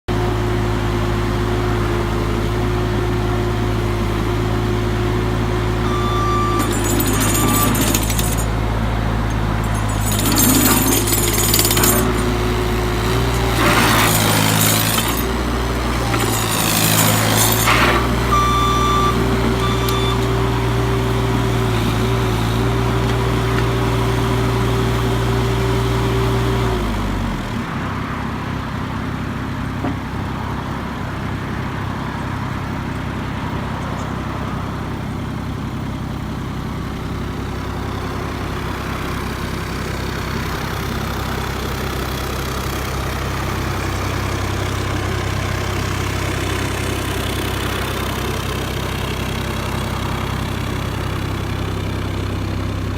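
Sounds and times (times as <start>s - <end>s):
skid steer engine running: 0.1s - 52.9s.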